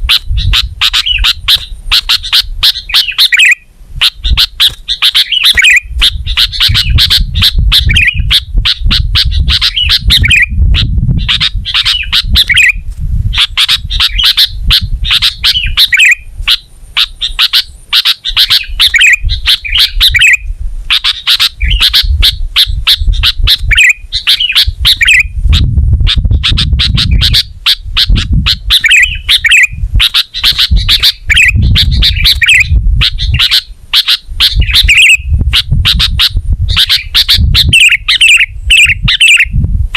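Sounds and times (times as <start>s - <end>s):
sharp bird chips: 0.0s - 10.5s, 11.3s - 12.8s, 13.4s - 25.3s, 27.0s - 39.5s
bulbul singing warbled phrases: 0.0s - 39.6s.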